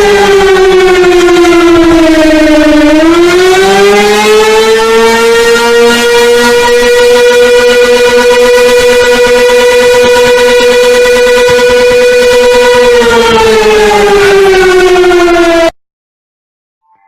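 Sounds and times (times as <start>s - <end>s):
siren winding down: 0.0s - 15.8s.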